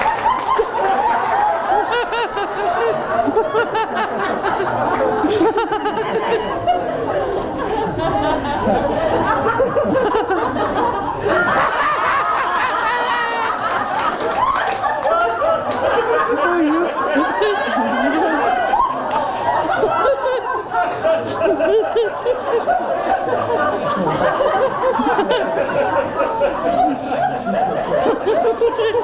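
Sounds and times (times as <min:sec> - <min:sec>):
people laughing: 0:00.0 - 0:29.0.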